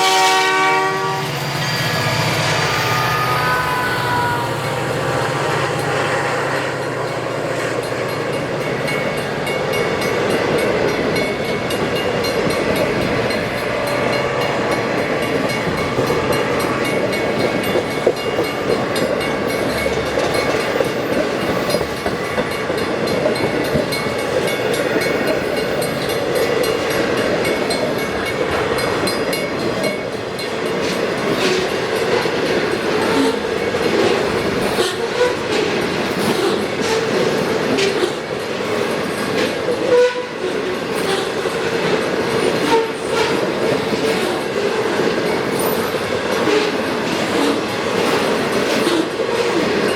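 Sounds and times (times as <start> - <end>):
freight train rolling past: 0.0 - 49.9.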